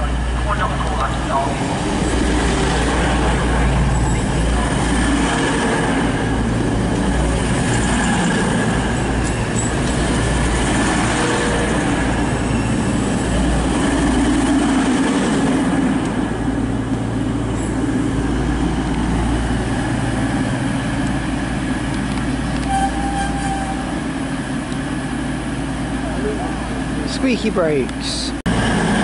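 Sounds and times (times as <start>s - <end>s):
diesel train engines droning: 0.0s - 29.0s.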